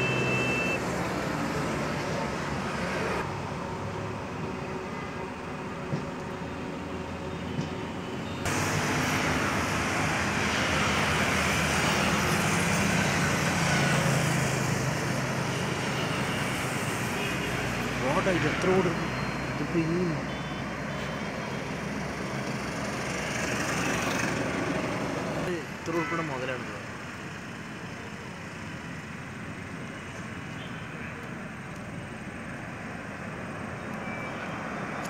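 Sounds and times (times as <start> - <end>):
highway traffic rushing: 0.0 - 35.0.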